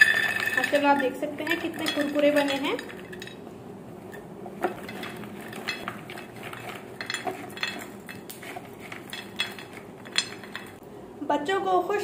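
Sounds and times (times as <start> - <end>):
crisp pieces clinking on plate: 0.0 - 3.4, 4.6 - 10.8.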